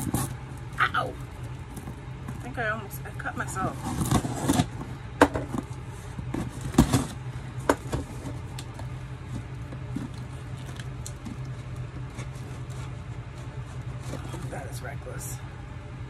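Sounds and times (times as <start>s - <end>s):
tape and cardboard crackling: 0.0s - 2.6s, 3.4s - 14.7s
steady low hum: 0.0s - 16.0s.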